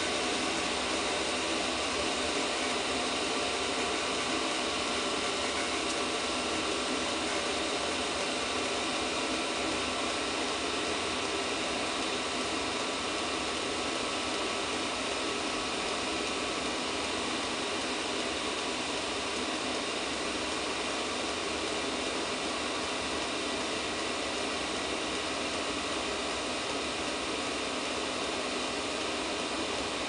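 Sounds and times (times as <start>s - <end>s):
heater blower fan rushing air: 0.0s - 30.0s.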